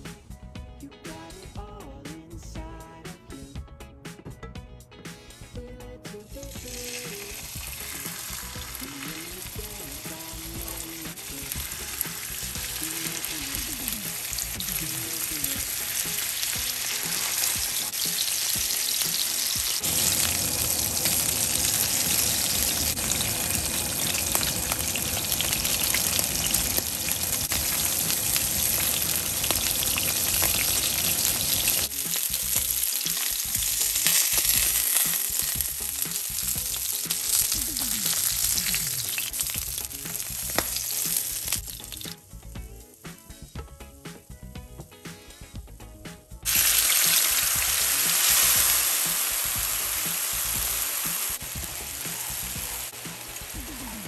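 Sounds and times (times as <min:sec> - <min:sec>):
fish sizzling in a frying pan: 0:06.4 - 0:42.3, 0:46.5 - 0:54.0.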